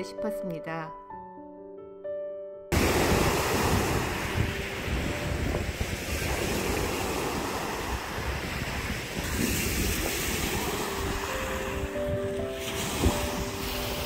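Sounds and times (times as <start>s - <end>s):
waves washing on pebbles: 2.7s - 14.0s
wind buffeting microphone: 2.7s - 14.0s.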